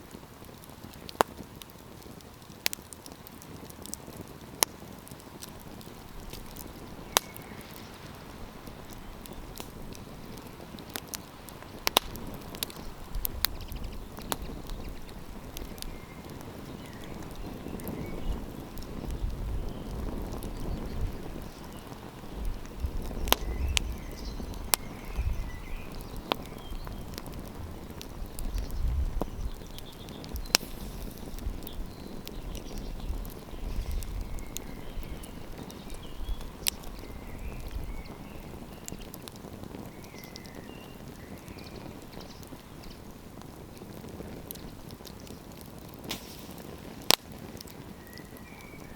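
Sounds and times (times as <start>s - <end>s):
campfire crackling: 0.0s - 48.9s.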